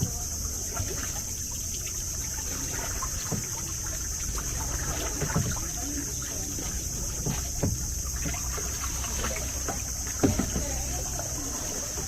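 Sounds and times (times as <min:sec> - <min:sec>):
faint murmured voices: 0:00.0 - 0:03.6, 0:04.4 - 0:12.0
paddle boat rowed through water: 0:00.0 - 0:12.0
steady high-pitched hiss: 0:00.0 - 0:12.0.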